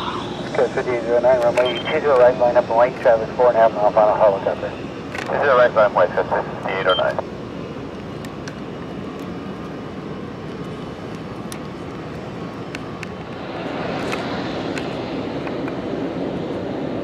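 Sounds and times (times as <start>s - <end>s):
jet engines rushing on takeoff: 0.0s - 17.0s.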